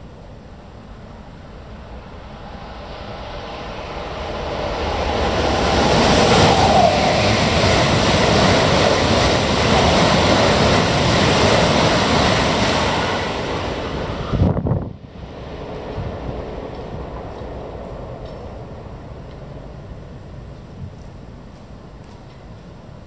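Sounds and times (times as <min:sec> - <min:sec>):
high-speed train passing: 0:00.0 - 0:23.0.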